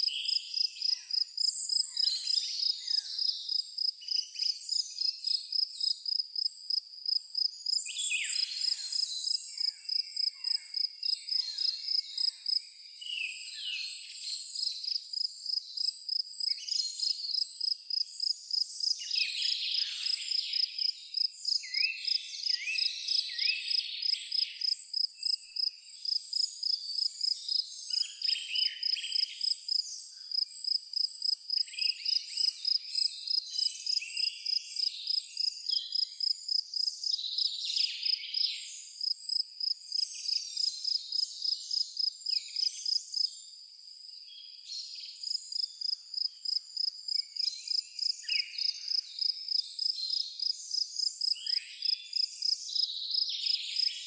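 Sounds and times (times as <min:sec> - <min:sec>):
cricket chirping: 0:00.0 - 0:13.0, 0:14.6 - 0:54.0.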